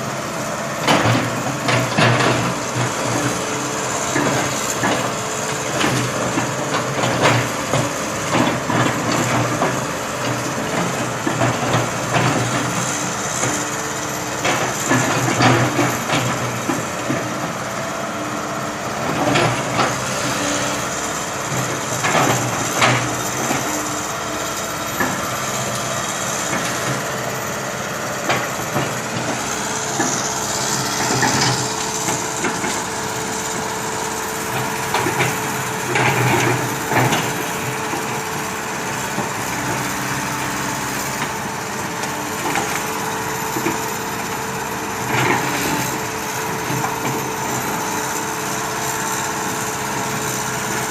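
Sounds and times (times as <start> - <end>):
backhoe engine running: 0.0 - 50.9.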